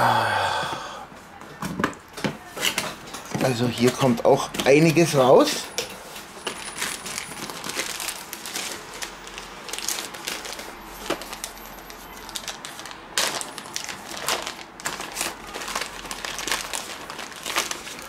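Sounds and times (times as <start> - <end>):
plastic bags crinkling: 3.1 - 18.0.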